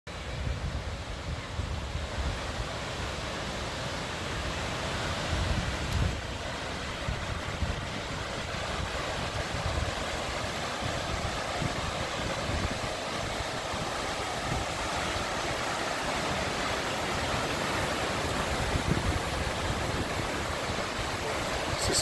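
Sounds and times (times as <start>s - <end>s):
waterfall rushing: 0.1s - 22.0s.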